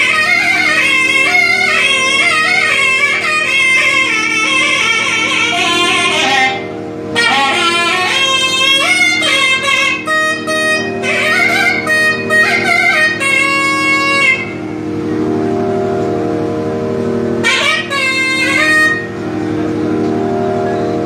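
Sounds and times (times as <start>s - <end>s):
nadhaswaram ornamented melody: 0.0s - 21.0s
steady drone: 0.0s - 21.0s.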